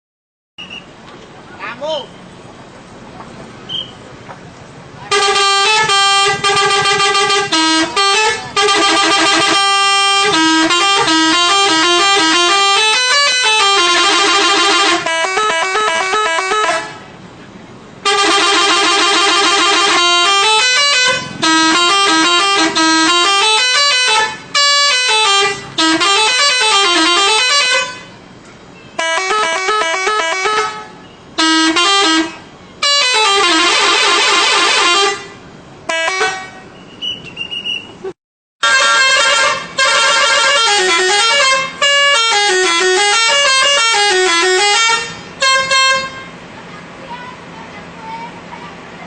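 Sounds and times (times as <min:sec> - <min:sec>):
bus musical horn: 0:05.0 - 0:17.2, 0:18.0 - 0:37.9, 0:38.6 - 0:48.8.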